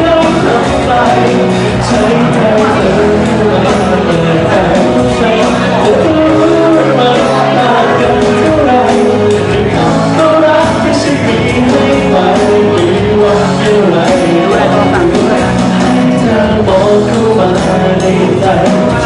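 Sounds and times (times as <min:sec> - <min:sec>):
band accompaniment: 0:00.0 - 0:19.0
man singing: 0:00.0 - 0:19.0.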